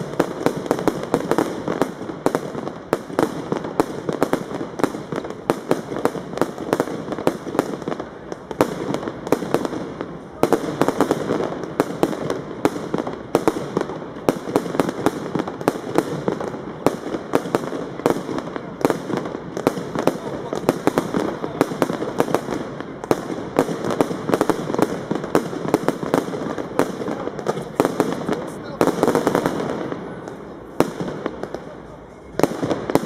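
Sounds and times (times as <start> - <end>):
fireworks cake firing sharp bangs: 0.0 - 33.0.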